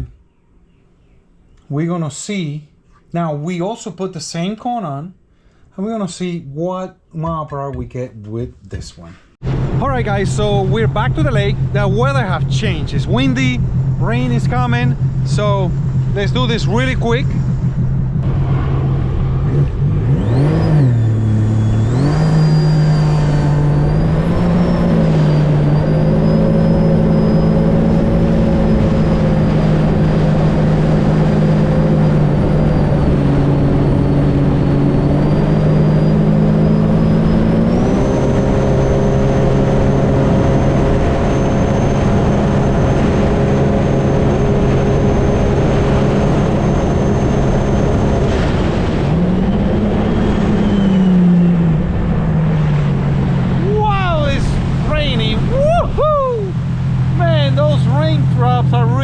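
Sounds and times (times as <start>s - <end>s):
personal watercraft engine running hard: 9.5s - 59.0s.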